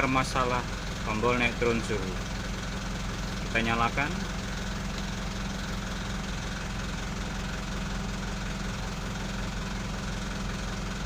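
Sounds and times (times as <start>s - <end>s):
cooling unit pulsing hum: 0.0s - 11.0s
truck engine idling: 0.0s - 11.0s.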